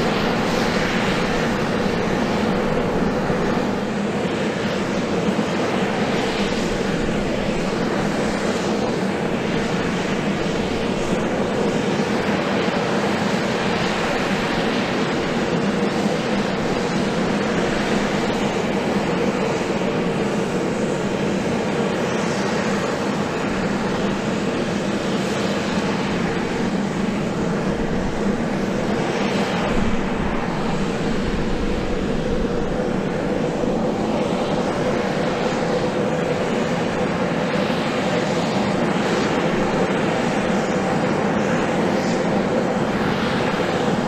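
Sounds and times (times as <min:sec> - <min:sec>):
tiltrotor aircraft running: 0:00.0 - 0:44.0.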